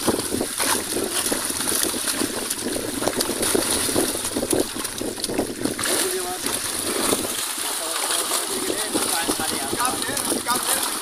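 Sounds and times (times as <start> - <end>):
fish thrashing in water: 0.0 - 11.0.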